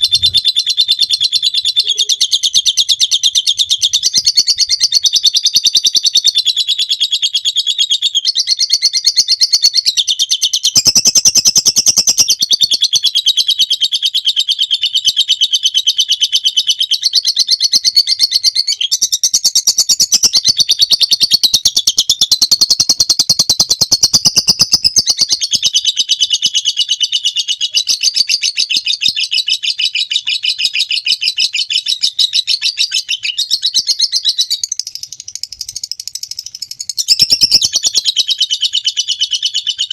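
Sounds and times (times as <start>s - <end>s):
lovebird chattering trill: 0.0s - 7.6s, 10.6s - 39.9s.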